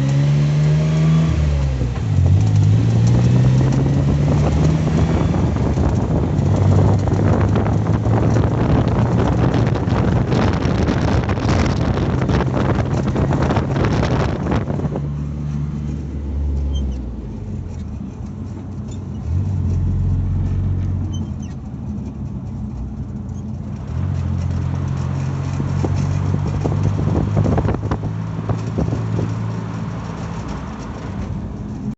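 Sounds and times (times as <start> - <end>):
car engine drone: 0.0 - 31.9.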